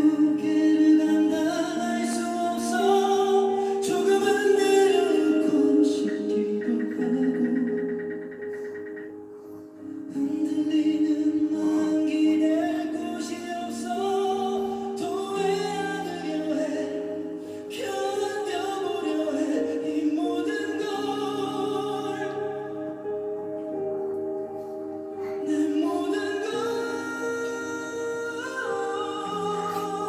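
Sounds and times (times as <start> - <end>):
background music with singing: 0.0 - 30.0.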